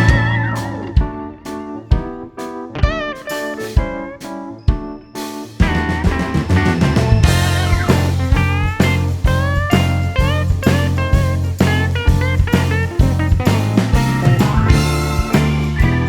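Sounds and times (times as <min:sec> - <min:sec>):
blues-rock music with electric guitar: 0:00.0 - 0:16.0.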